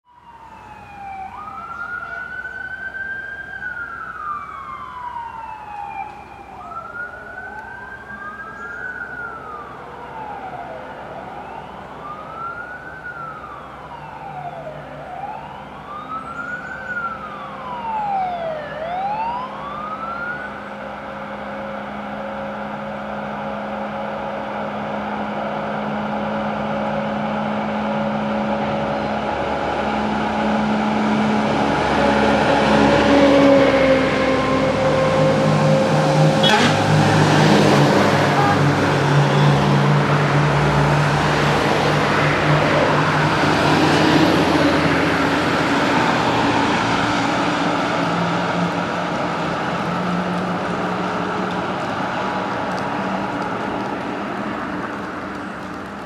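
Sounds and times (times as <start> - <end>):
fire engine sirens wailing: 0.0 - 56.0
truck diesel engines: 0.0 - 56.0.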